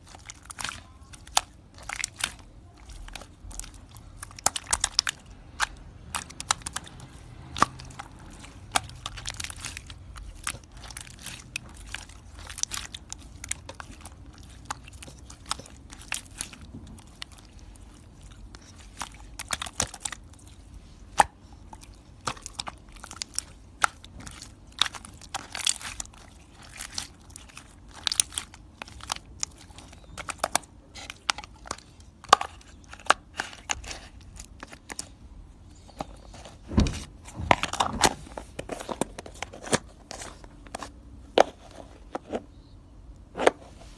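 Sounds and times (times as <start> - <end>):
crunching and crackling: 0.0 - 43.9
low steady hum: 0.0 - 43.9.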